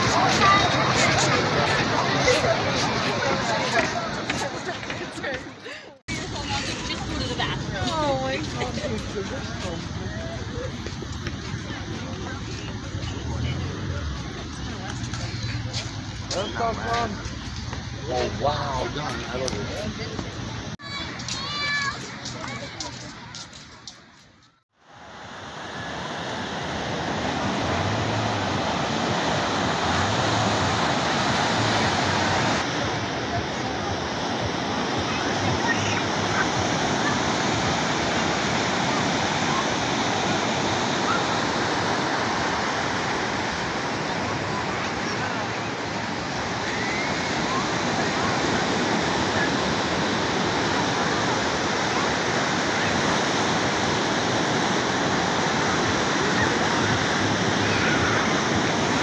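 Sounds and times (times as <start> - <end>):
ocean surf on sandy beach: 0.0 - 22.6, 24.8 - 59.0.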